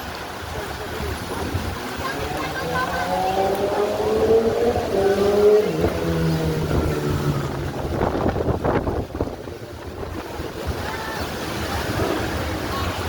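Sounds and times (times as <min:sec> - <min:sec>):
rush of traffic noise: 0:00.0 - 0:13.0
vehicle engine passing: 0:01.2 - 0:12.7.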